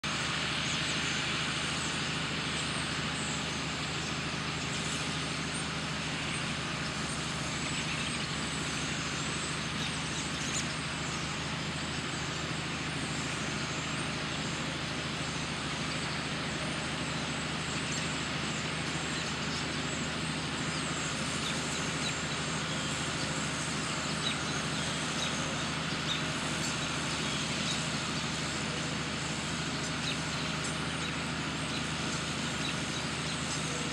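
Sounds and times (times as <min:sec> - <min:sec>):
low engine-like hum: 0:00.0 - 0:33.9.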